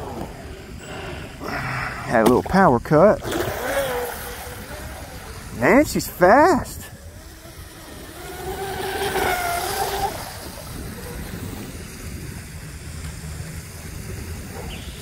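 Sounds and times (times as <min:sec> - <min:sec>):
wind rumble on microphone: 0:00.0 - 0:15.0
electric boat motor whining: 0:02.9 - 0:15.0.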